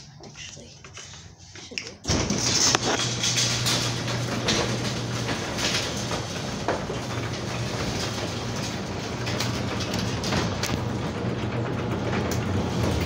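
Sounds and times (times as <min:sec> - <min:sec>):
garage door opener motor humming: 0:02.0 - 0:13.0.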